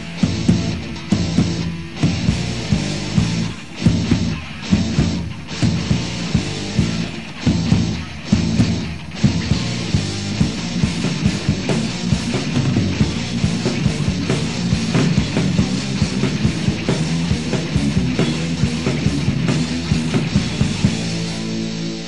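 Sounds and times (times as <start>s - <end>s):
bass guitar: 0.0s - 22.0s
distorted electric guitars: 0.0s - 22.0s
driving drums: 0.0s - 22.0s.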